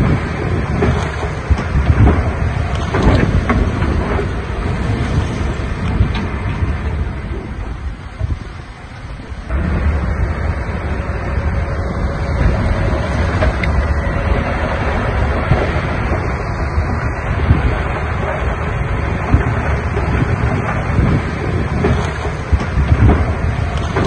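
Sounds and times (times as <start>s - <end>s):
diesel engine of heavy machinery: 0.0s - 24.0s
wind rumbling on microphone: 0.0s - 24.0s.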